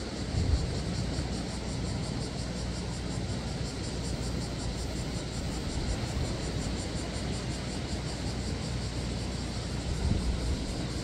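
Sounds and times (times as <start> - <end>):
wind and surf rumble: 0.0 - 11.0.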